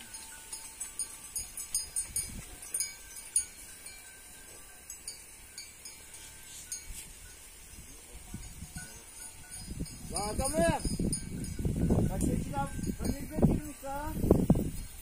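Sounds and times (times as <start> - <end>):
small livestock bells clinking: 0.0 - 15.0.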